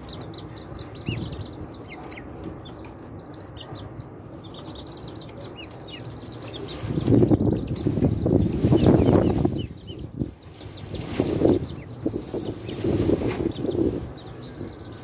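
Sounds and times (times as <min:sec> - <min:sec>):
chicks and ducklings peeping: 0:00.0 - 0:15.0.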